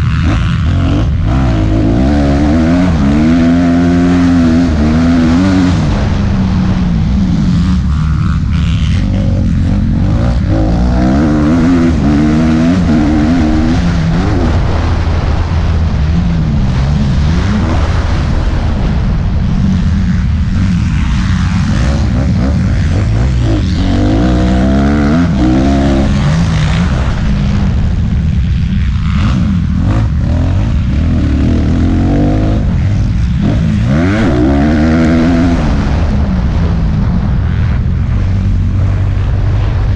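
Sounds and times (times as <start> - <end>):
motocross bike engine revving: 0.0 - 39.9
steady rushing noise: 0.0 - 39.9.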